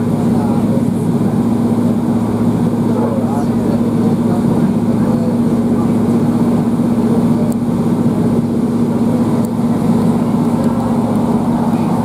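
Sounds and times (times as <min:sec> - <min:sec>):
diesel engine drone: 0:00.0 - 0:12.0
wheels rumbling on track: 0:00.0 - 0:12.0.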